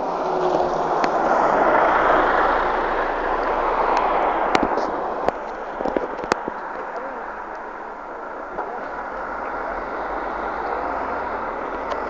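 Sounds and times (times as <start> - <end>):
bus driving past: 0.0 - 5.9, 6.6 - 12.0.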